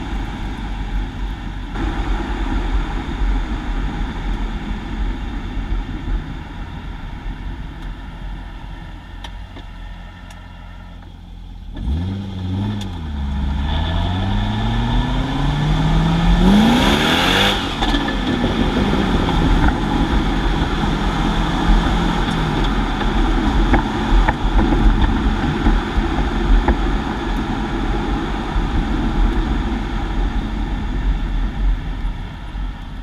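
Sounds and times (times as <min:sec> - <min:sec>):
car engine revving and rumbling: 0:00.0 - 0:33.0.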